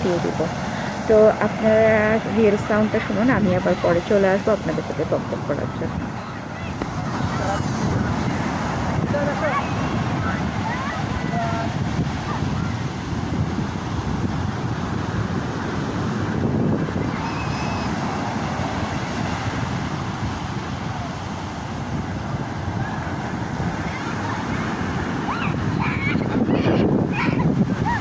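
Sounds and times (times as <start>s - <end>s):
ocean surf washing onto beach: 0.0s - 28.0s
wind buffeting microphone: 0.0s - 28.0s.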